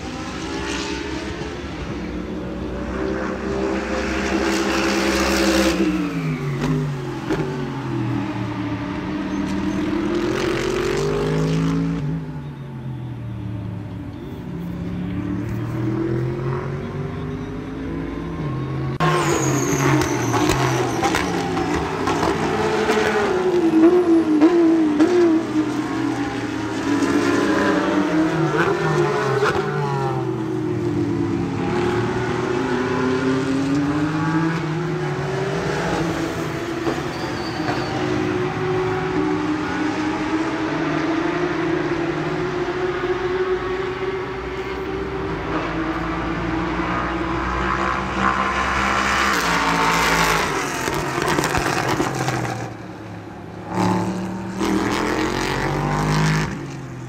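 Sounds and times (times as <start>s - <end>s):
racing car engines revving: 0.0s - 12.9s, 13.7s - 57.0s.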